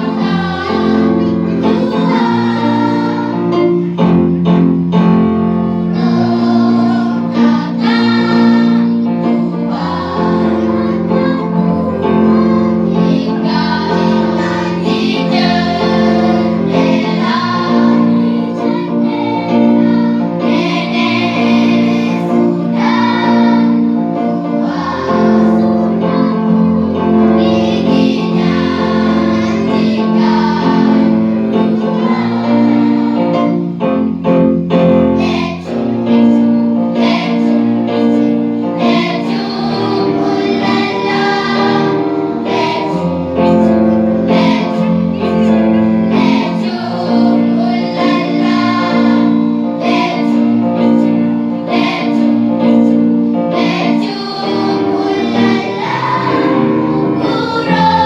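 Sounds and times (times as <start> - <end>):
children's song with keyboard: 0.0 - 58.0.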